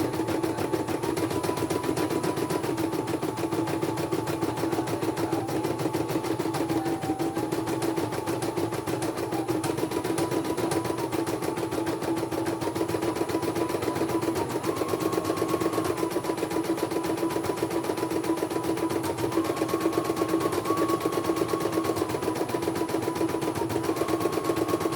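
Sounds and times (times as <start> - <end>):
embroidery machine stitching: 0.0 - 24.9
machine whine: 0.0 - 24.9.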